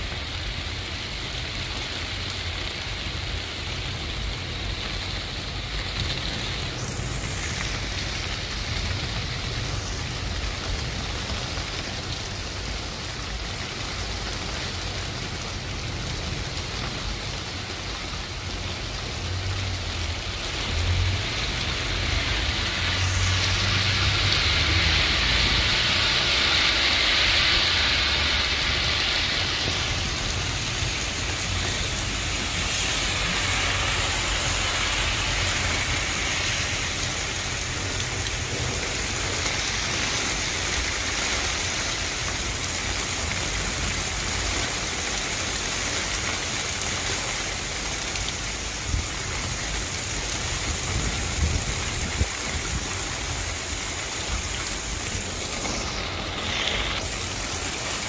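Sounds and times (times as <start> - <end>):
heavy rain and hail: 0.0 - 58.0.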